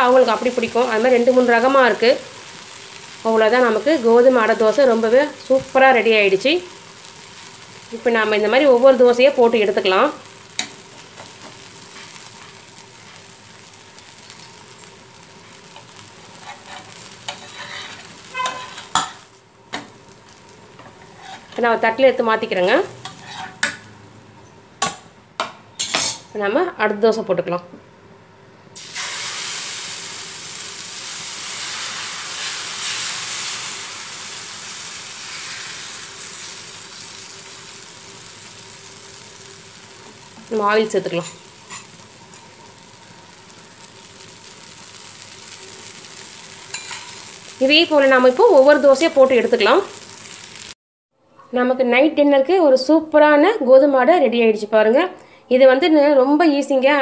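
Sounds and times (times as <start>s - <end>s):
batter sizzling in oil: 0.0s - 24.3s, 28.8s - 50.8s.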